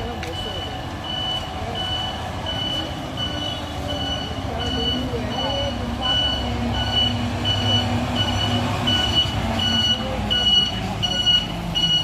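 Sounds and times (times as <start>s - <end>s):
diesel engine running: 0.0s - 12.0s
truck warning beeper: 0.0s - 12.0s.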